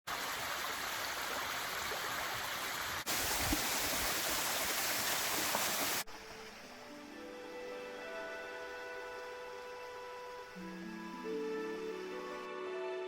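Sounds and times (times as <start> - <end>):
stream water rushing: 0.1 - 11.2.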